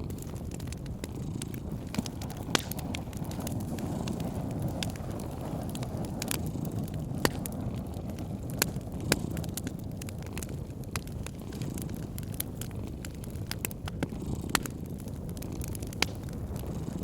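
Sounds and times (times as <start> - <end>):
cat purring: 0.0 - 17.0
wood fire crackling: 0.0 - 17.0.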